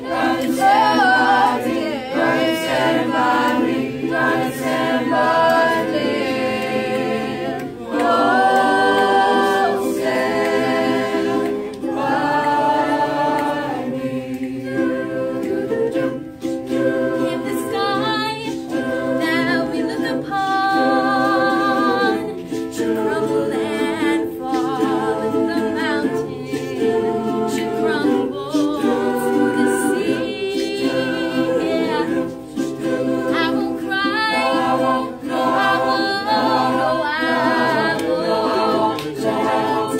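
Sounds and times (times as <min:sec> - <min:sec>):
choir singing a cappella: 0:00.0 - 0:39.9
female soloist singing with vibrato: 0:00.0 - 0:39.9.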